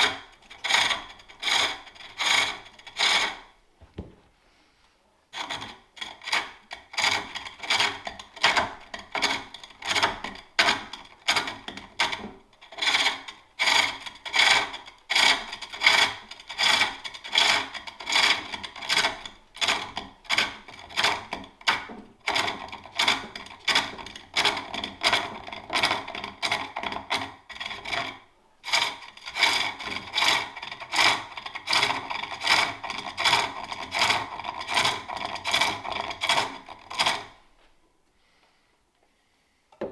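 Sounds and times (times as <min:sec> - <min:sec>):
lathe tool scraping wood: 0:00.0 - 0:03.5, 0:05.4 - 0:37.4.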